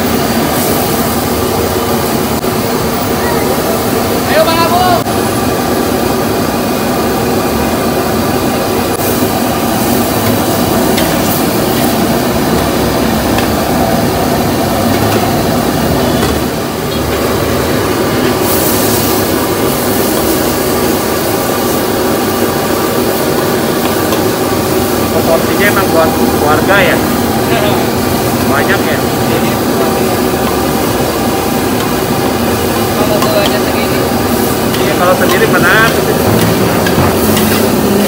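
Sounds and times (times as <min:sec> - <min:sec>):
food sizzling: 0:00.0 - 0:38.0
gas wok burner roaring: 0:00.0 - 0:38.0.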